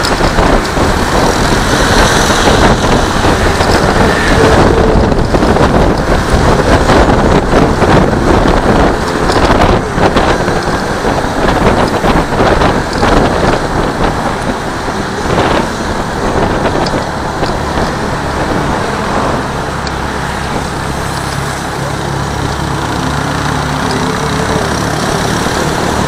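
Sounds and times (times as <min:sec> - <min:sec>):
road and engine noise: 0:00.0 - 0:26.0
wind on microphone: 0:00.0 - 0:26.0.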